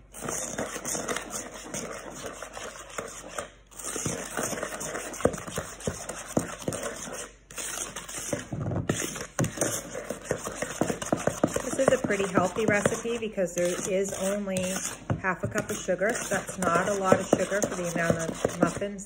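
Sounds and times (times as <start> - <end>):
spatula stirring in plastic bowl: 0.0 - 19.0.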